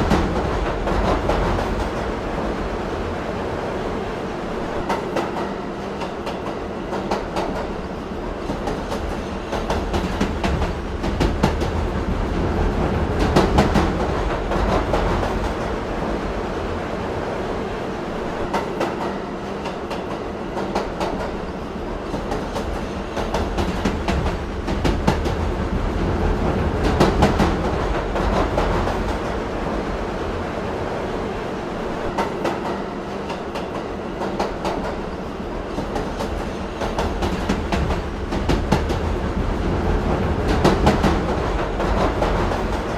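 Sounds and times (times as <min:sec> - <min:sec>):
subway train rumbling: 0:00.0 - 0:42.9.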